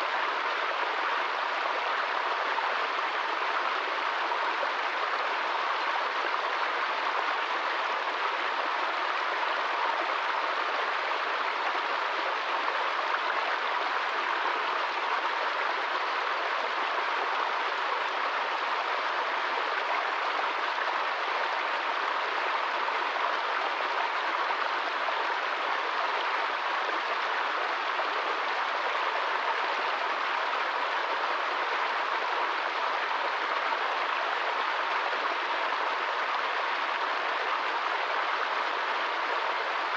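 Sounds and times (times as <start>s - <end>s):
stream splashing over rocks: 0.0s - 39.9s.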